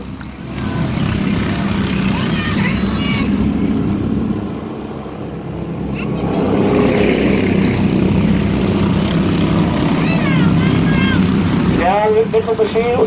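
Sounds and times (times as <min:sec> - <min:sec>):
racing truck engines droning: 0:00.0 - 0:13.0.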